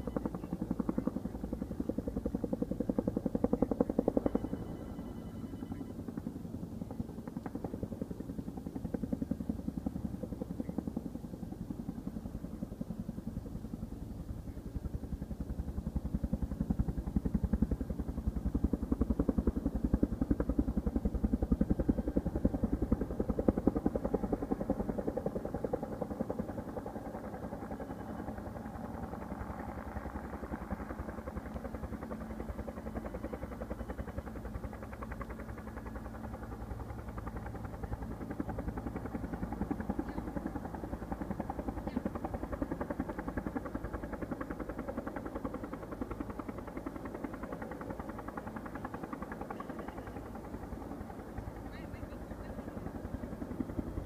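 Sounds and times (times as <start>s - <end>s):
helicopter rotor chopping: 0.0s - 54.0s.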